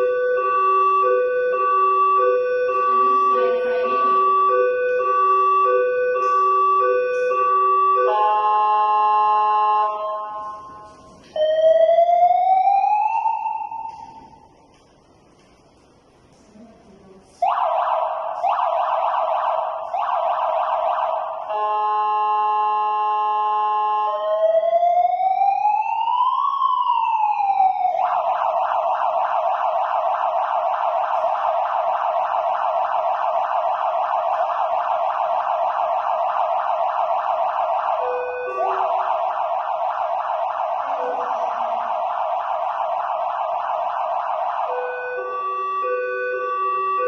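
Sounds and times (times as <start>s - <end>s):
electronic emergency siren: 0.0s - 14.6s, 17.4s - 47.0s.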